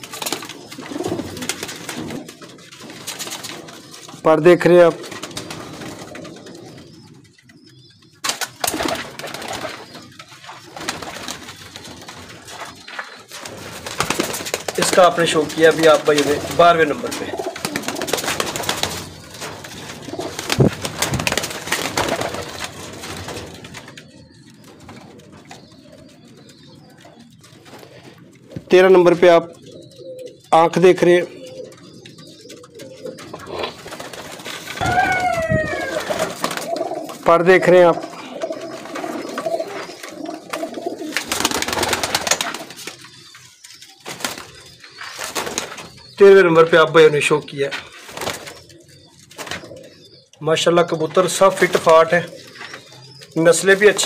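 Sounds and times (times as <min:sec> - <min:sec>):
wings flapping: 0:00.0 - 0:28.7, 0:31.7 - 0:46.2, 0:47.6 - 0:50.0
pigeons cooing: 0:00.0 - 0:54.0.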